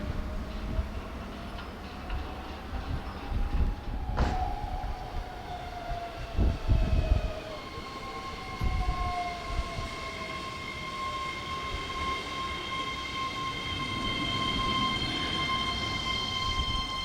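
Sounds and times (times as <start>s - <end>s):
electric train motor whine: 0.0s - 17.0s.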